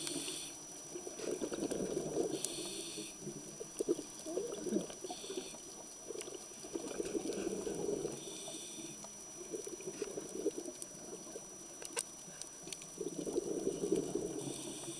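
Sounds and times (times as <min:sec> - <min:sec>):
faint high whine: 0:00.0 - 0:14.9
underwater bubbling and crackling: 0:00.0 - 0:14.9.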